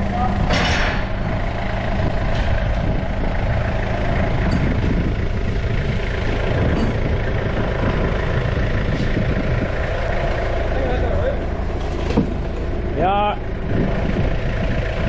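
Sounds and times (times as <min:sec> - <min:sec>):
forklift engine idling: 0:00.0 - 0:15.0.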